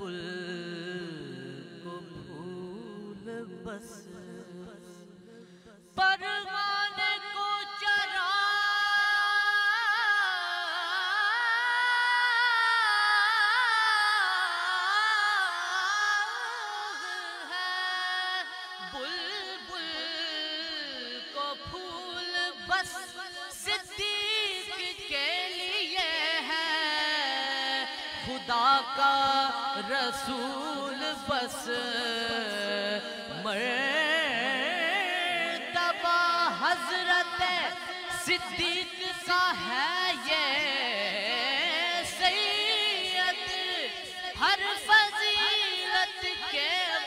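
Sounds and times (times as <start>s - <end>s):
man singing unaccompanied: 0.0s - 47.0s.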